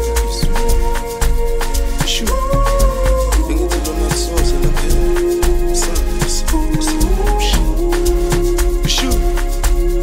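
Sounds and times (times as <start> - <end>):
heavy bass: 0.0 - 10.0
steady drum beat: 0.0 - 10.0.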